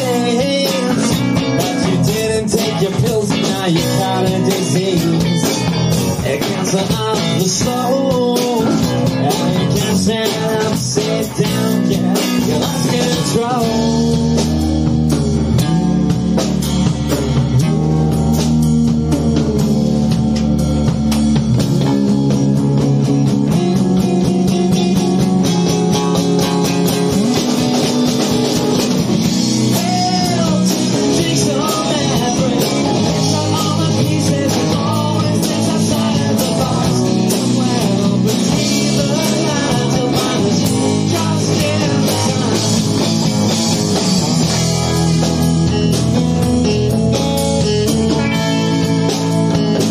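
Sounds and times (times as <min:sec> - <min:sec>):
bass guitar: 0:00.0 - 0:49.9
drum kit: 0:00.0 - 0:49.9
electric guitar: 0:00.0 - 0:49.9.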